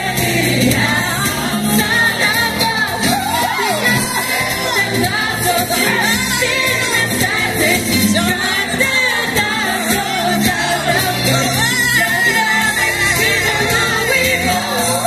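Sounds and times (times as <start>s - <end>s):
upbeat song with singing: 0.0s - 15.0s.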